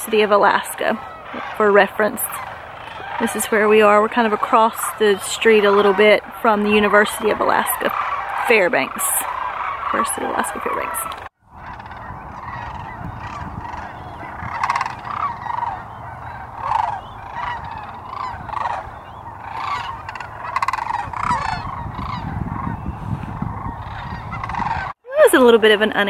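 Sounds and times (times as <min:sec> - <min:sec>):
cranes calling: 0:00.0 - 0:26.0.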